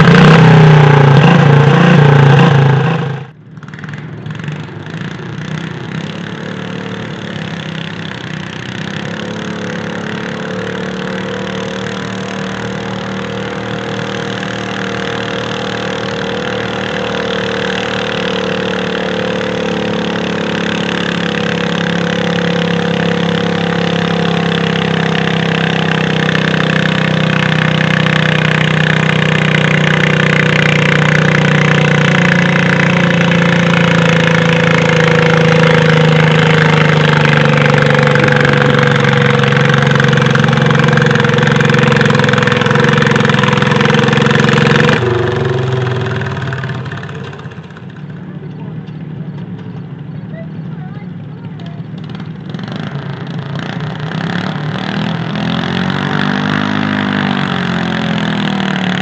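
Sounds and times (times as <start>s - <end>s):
tractor engine running hard: 0.0s - 59.0s.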